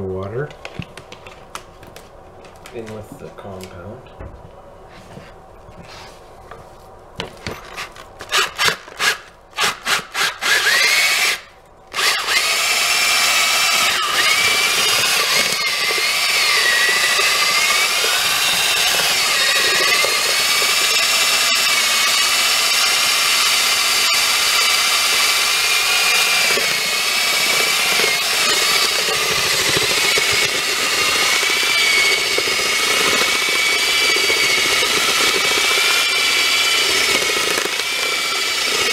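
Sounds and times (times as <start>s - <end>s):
electric drill mixing in bucket: 7.6s - 38.9s.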